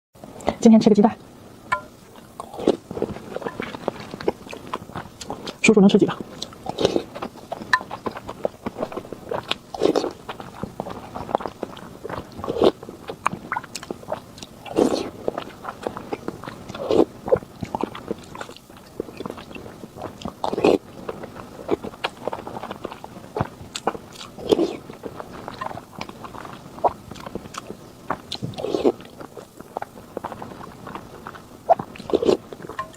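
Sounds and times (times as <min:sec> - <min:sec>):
person chewing and biting food: 0:02.1 - 0:32.9.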